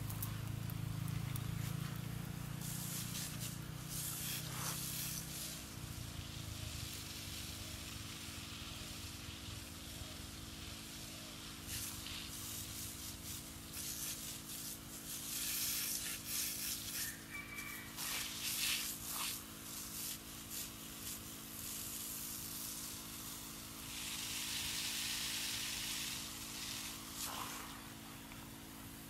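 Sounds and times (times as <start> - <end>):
water spraying from hose: 0.0 - 29.0.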